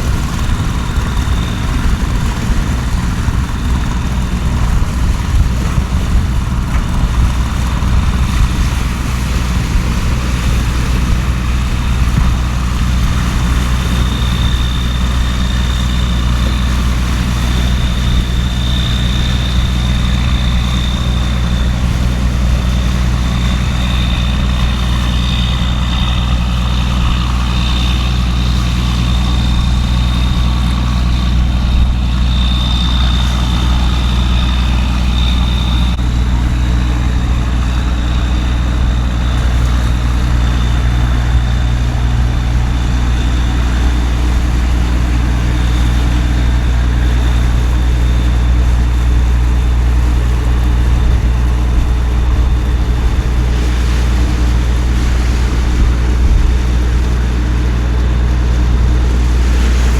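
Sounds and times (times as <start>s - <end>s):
heavy engine idling: 0.0s - 59.9s
high whine: 0.0s - 59.9s.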